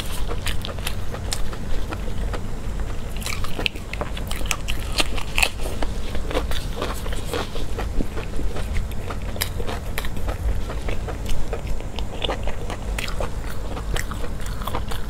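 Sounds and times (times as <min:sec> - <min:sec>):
close chewing and biting: 0:00.0 - 0:15.0
crunchy bites: 0:00.0 - 0:15.0.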